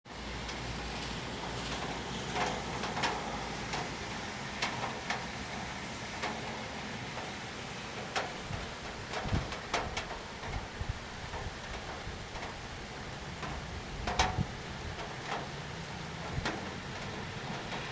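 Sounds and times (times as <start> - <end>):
rain hiss: 0.1 - 17.9.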